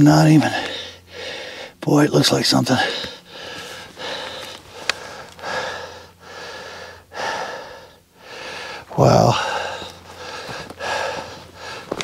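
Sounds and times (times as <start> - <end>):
person breathing heavily: 0.3 - 1.8, 2.6 - 12.0.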